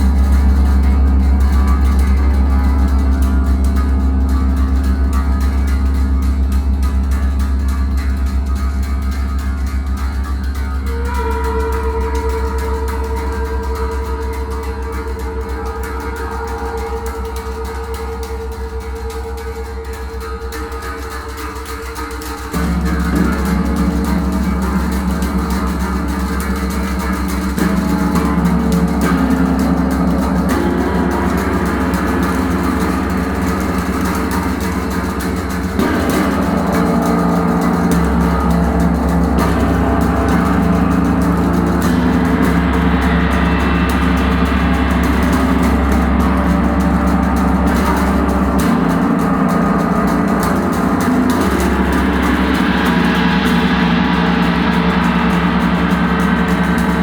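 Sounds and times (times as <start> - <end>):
deep gong drone: 0.0 - 57.0.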